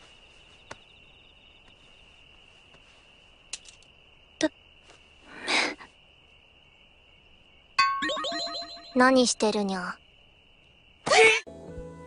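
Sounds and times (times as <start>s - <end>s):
crickets chirring: 0.0s - 11.4s.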